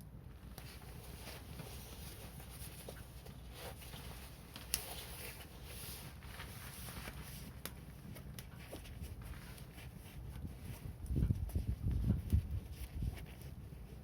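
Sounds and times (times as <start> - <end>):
wood fire crackling: 0.5 - 12.7.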